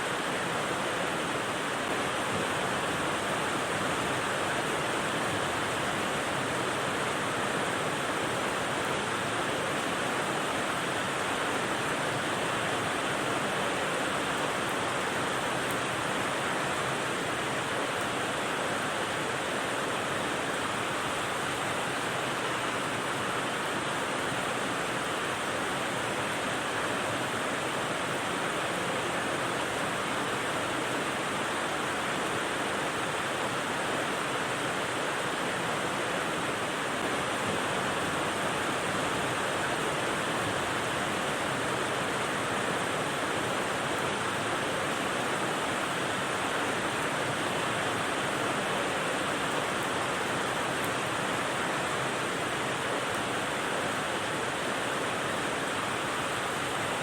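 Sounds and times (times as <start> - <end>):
steady hiss of rain: 0.0 - 57.0.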